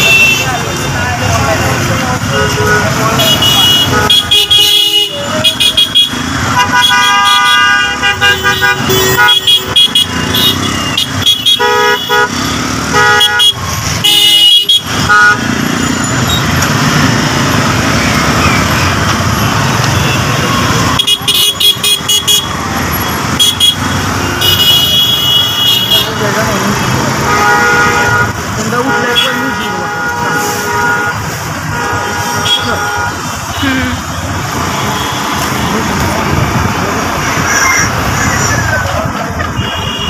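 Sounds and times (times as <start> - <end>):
vehicle horns honking: 0.0 - 16.6, 19.2 - 36.0, 39.5 - 40.0
traffic engines rumbling: 0.0 - 40.0.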